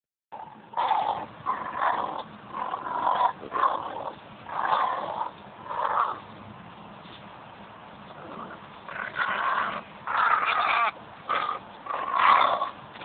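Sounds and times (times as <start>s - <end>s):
dog growling: 0.4s - 6.2s, 8.2s - 12.8s.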